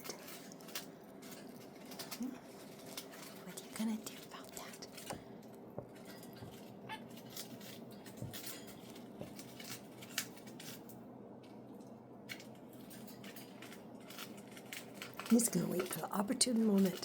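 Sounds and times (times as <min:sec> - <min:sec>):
birds nibbling with small clicks: 0:00.0 - 0:17.0.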